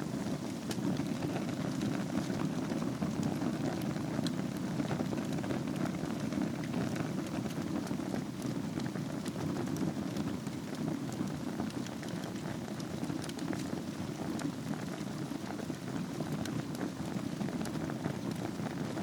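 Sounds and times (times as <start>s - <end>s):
fire crackling and popping: 0.0s - 19.0s
low rush of flames: 0.0s - 19.0s.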